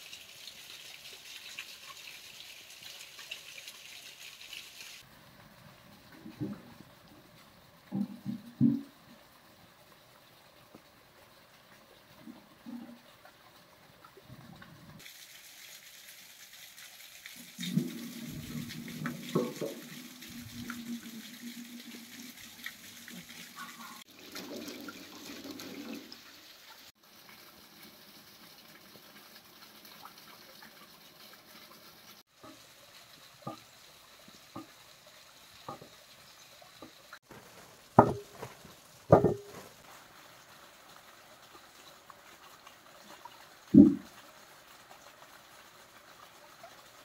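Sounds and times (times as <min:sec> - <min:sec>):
water running and splashing: 0:00.0 - 0:47.0.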